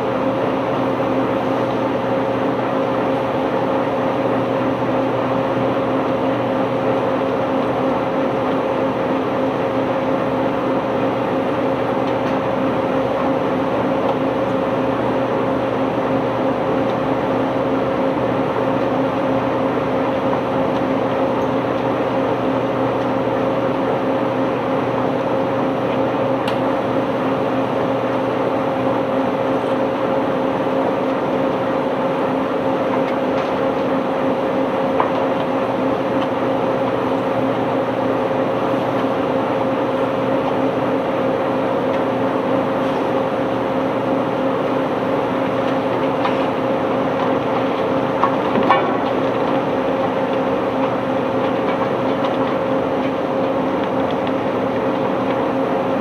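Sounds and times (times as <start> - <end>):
heavy machinery engine running: 0.0 - 56.0.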